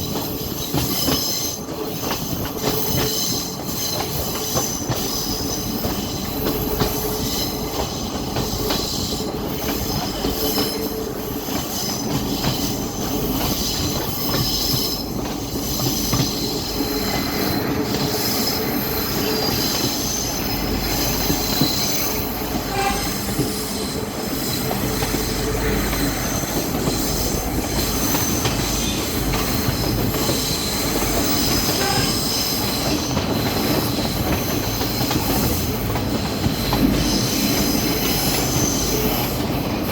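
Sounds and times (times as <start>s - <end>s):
train rumbling on track: 0.0s - 39.9s
wheels squealing on rails: 0.0s - 39.9s.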